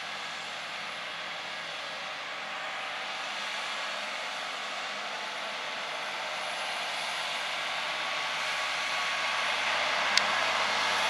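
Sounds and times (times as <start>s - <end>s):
tractor pulling disc harrow: 0.0s - 11.0s.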